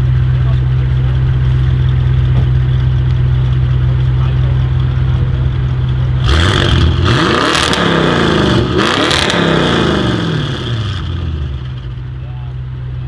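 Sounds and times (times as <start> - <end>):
car engine revving: 0.0 - 12.2
engine idling: 0.0 - 13.0.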